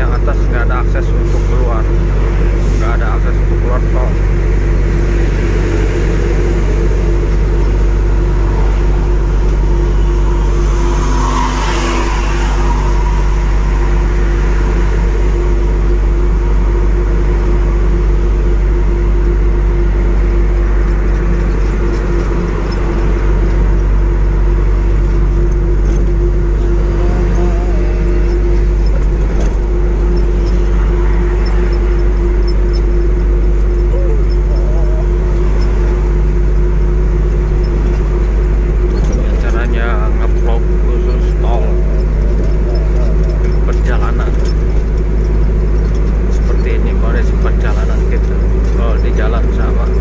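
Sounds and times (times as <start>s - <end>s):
road noise: 0.0s - 50.0s
truck engine drone: 0.0s - 50.0s.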